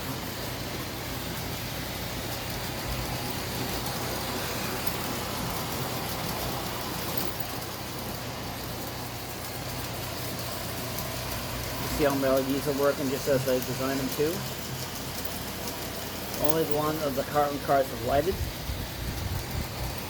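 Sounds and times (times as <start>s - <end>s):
locomotive motor hum: 0.0s - 20.0s
model train wheels rolling on rail: 0.0s - 20.0s.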